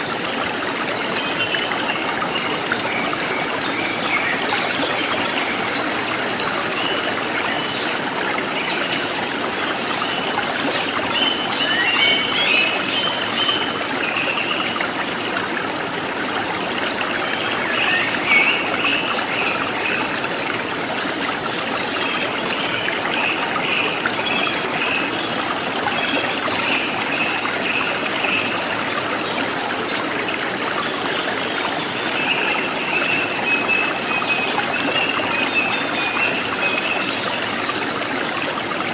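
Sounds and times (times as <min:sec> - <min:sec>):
forest stream trickling: 0:00.0 - 0:38.9.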